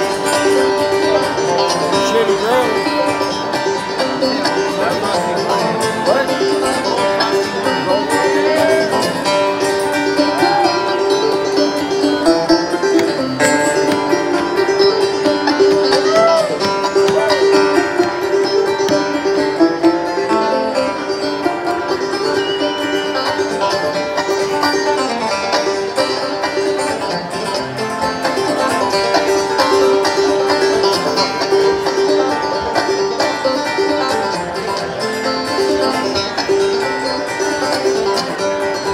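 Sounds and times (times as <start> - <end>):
acoustic guitar: 0.0 - 38.9
banjo: 0.0 - 38.9.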